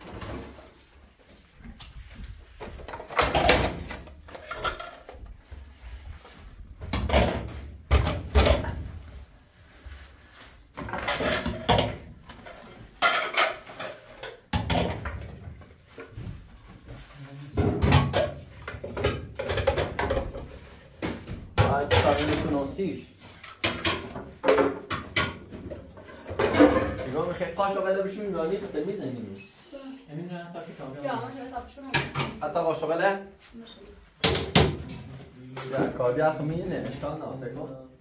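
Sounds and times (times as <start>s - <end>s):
objects knocking and clattering: 0.0s - 9.3s, 10.6s - 27.8s, 31.8s - 32.7s, 34.1s - 37.1s.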